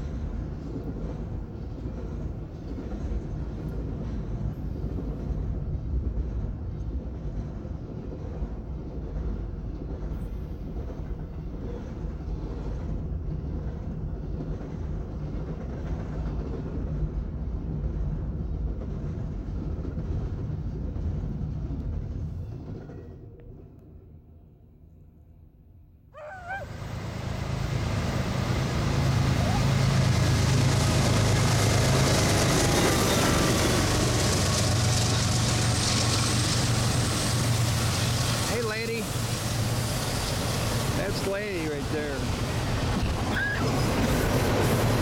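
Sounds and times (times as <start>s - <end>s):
freight train wheels rumbling: 0.0s - 23.8s, 26.3s - 45.0s.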